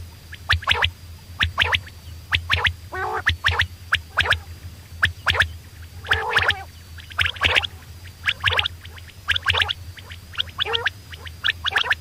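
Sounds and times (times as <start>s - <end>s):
faint low hum: 0.0s - 12.0s
quail calling: 0.5s - 12.0s.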